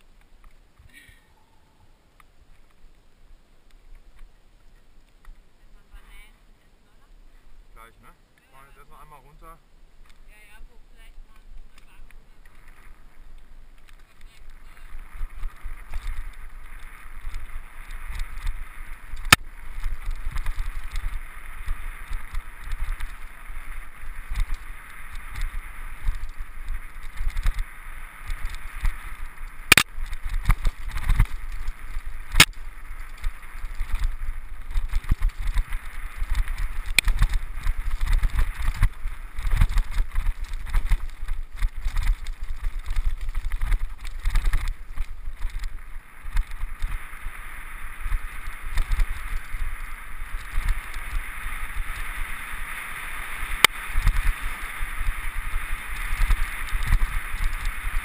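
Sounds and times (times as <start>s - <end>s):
bike tyres rumbling on trail: 9.9s - 58.0s.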